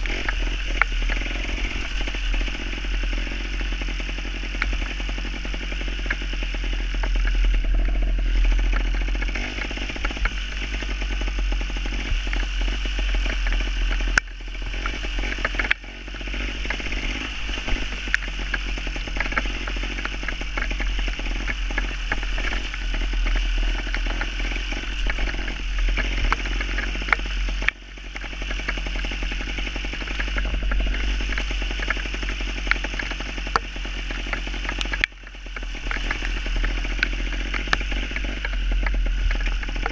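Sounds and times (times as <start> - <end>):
motorcycle engine running: 0.0 - 39.9
steady low rumble: 0.0 - 39.9.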